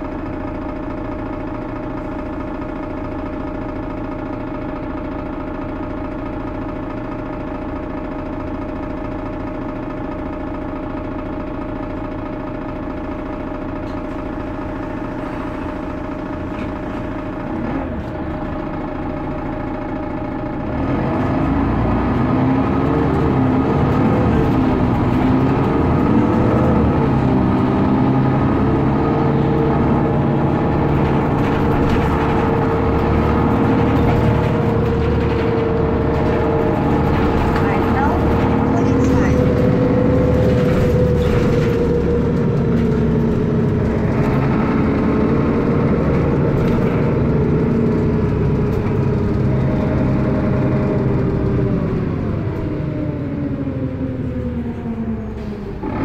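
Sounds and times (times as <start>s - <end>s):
bus diesel engine: 0.0s - 56.0s.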